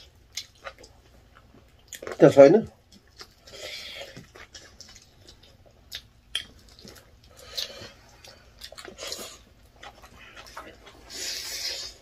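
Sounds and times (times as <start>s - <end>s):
people chewing: 0.0s - 12.0s.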